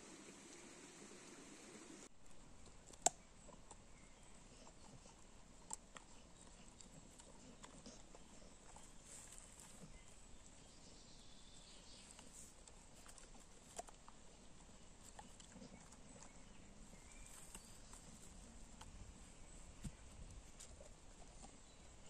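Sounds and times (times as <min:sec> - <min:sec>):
dog gnawing wood stick: 0:02.2 - 0:22.0.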